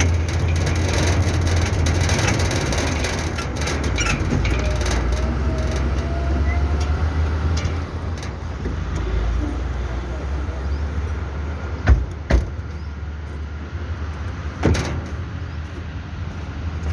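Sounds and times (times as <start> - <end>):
diesel truck engine rumbling: 0.0 - 16.9.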